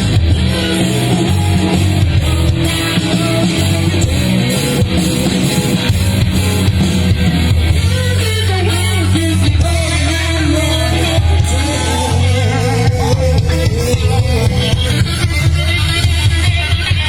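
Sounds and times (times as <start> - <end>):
loud blues-rock music: 0.0 - 17.0.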